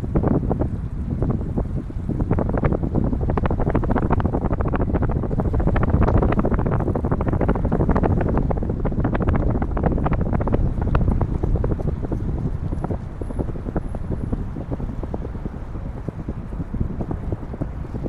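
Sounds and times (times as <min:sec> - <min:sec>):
wind buffeting microphone: 0:00.0 - 0:18.0
bicycle rattling: 0:00.6 - 0:18.0.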